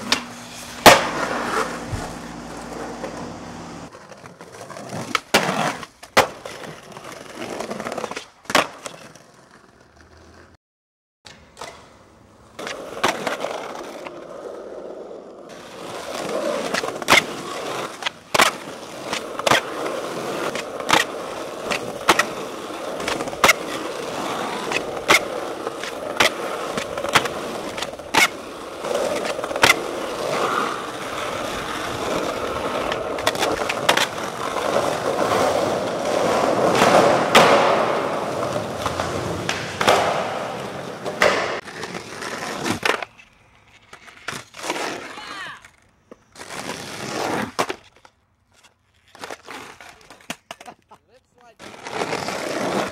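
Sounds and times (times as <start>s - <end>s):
skateboard clacking on ground: 0.0s - 10.5s, 11.3s - 46.6s, 47.3s - 52.9s
skateboard wheels rolling: 0.0s - 10.6s, 11.3s - 52.9s.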